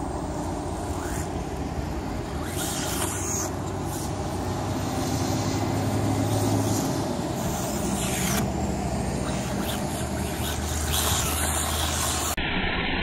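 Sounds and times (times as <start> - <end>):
hissing whoosh: 0.0 - 12.4
road traffic rumble: 0.0 - 12.4.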